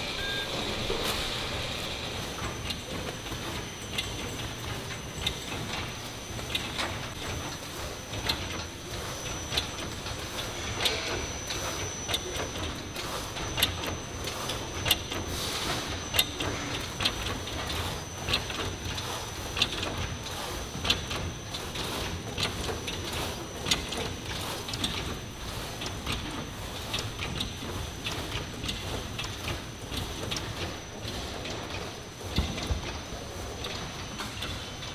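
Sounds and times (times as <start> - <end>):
machine hum with high whine: 0.0 - 34.9.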